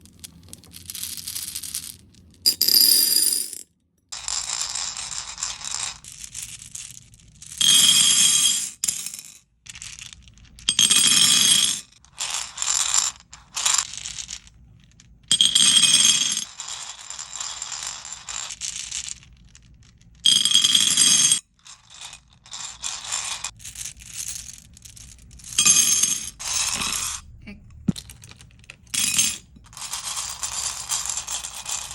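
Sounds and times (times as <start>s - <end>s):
beads rattling and clinking: 0.0s - 3.6s, 4.2s - 7.7s, 12.0s - 20.6s, 21.5s - 31.9s.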